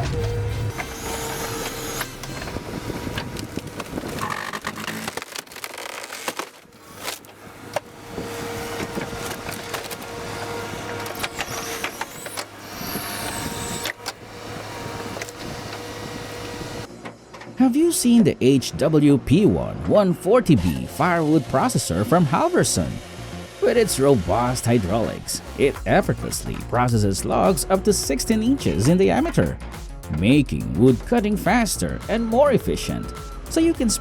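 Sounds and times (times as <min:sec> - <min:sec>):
wood-processing machine running: 0:00.0 - 0:16.9, 0:17.5 - 0:29.3
machine whine: 0:00.0 - 0:30.7.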